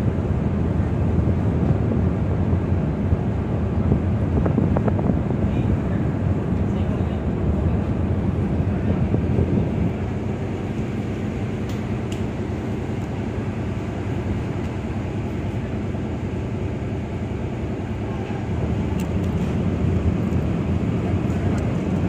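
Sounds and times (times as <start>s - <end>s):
ship engine rumbling: 0.0s - 22.0s.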